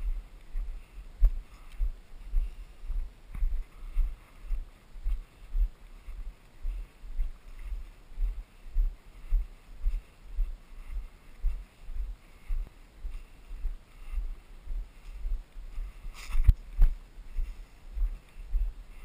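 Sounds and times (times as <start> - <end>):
footsteps on dirt trail: 0.0 - 19.0.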